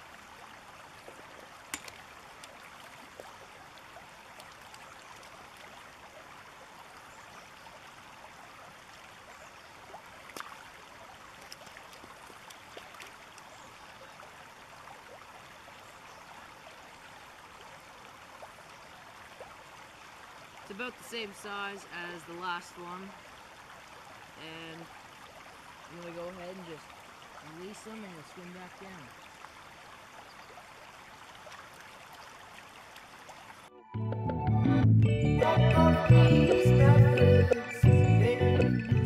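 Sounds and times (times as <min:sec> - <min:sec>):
river running over stones: 0:00.0 - 0:33.7.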